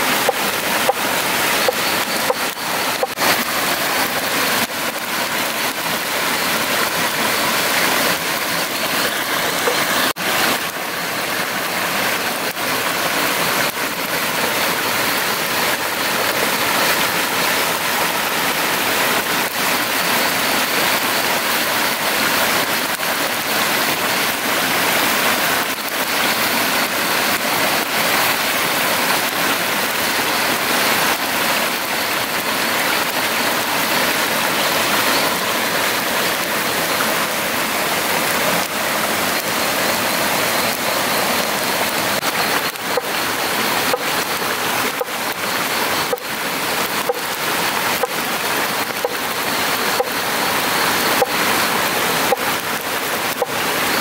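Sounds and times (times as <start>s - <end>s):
steady water noise: 0.0s - 54.0s.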